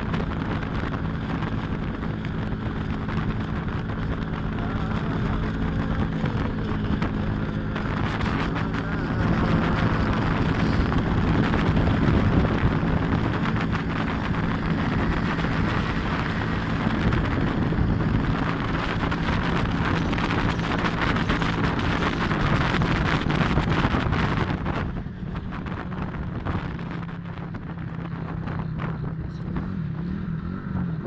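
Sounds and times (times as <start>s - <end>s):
motorcycle engine running: 0.0s - 31.0s
wind buffeting microphone: 0.0s - 31.0s.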